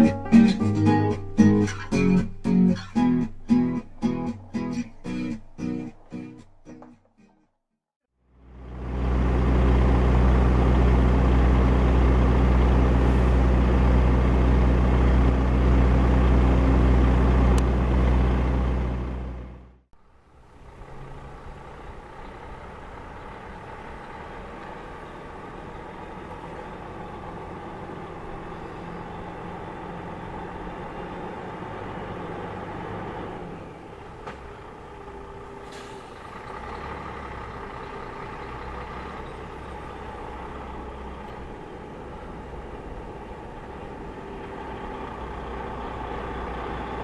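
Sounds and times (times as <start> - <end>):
diesel truck engine approaching: 0.0 - 6.9, 8.1 - 47.0.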